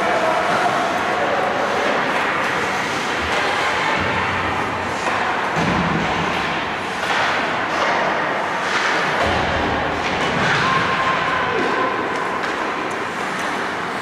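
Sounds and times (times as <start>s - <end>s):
ice hockey rink noise: 0.0s - 14.0s.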